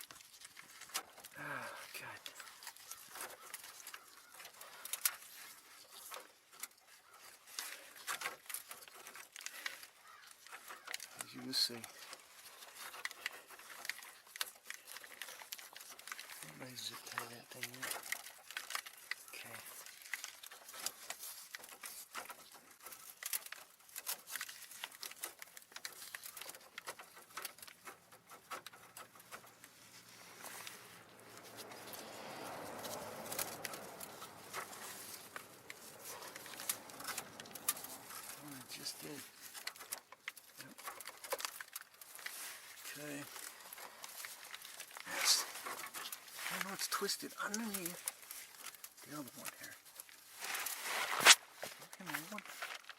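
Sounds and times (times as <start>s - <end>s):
light clicks and rustles of hands: 0.0s - 52.9s.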